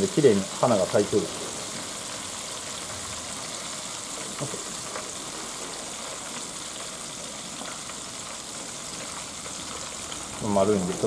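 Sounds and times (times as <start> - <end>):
hot oil sizzling: 0.0 - 11.0
faint crackles: 1.1 - 11.0.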